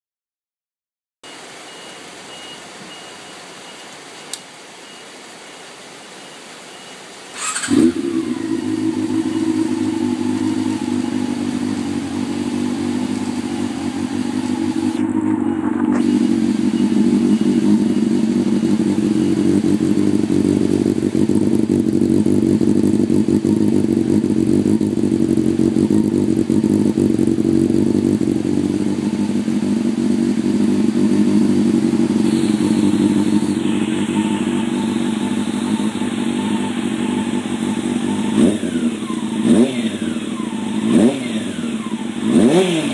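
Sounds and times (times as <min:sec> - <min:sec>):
motorcycle engine idling: 0:07.3 - 0:42.9.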